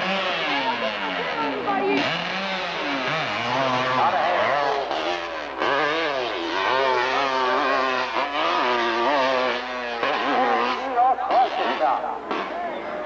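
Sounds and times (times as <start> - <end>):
motorcycle engine revving hard: 0.0 - 13.0.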